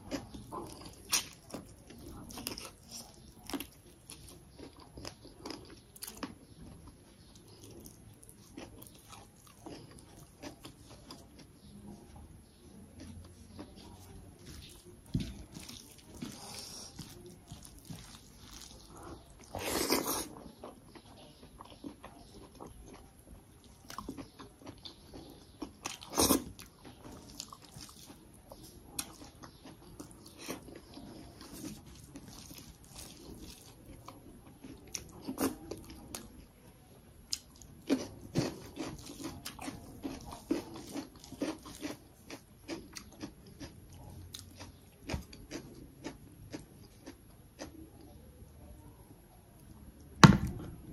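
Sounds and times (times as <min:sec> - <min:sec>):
food crunch: 0:00.0 - 0:11.8, 0:12.9 - 0:36.5, 0:37.3 - 0:48.1
chewing and lip smacks: 0:00.0 - 0:11.9, 0:12.8 - 0:36.5, 0:37.3 - 0:48.1.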